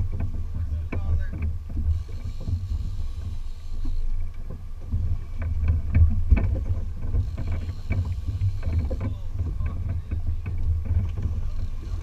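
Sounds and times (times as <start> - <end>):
small knocks and clicks: 0.0 - 11.6
boat engine rumble: 0.0 - 12.0.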